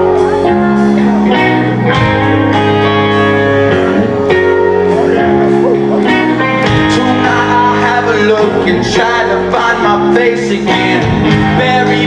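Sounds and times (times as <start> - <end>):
guitar chords: 0.0 - 12.0
rock band playing: 0.0 - 12.0.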